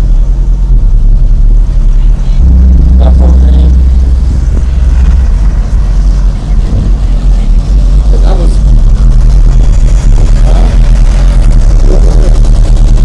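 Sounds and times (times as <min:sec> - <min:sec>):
loud subwoofer bass: 0:00.0 - 0:13.0.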